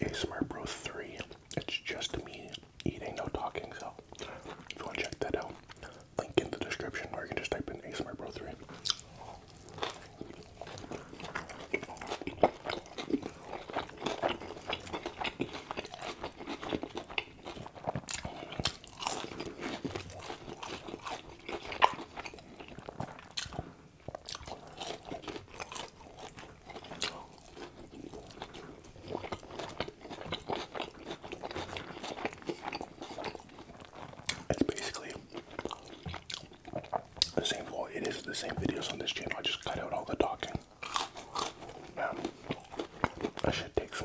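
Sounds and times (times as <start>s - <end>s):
chewing fried food: 0.0s - 44.0s.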